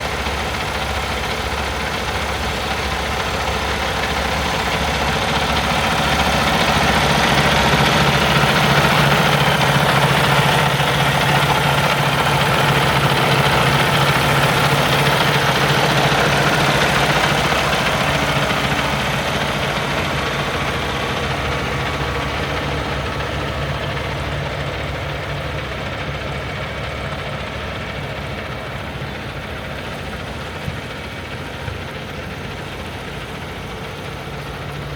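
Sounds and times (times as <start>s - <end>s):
diesel truck idling: 0.0s - 34.9s.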